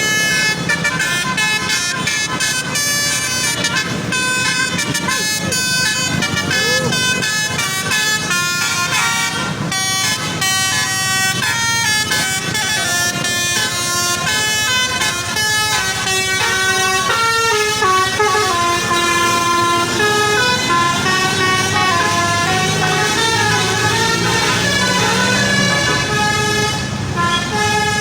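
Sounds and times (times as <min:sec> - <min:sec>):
bus engine rumbling: 0:00.0 - 0:28.0
musical air horn tune: 0:00.0 - 0:28.0.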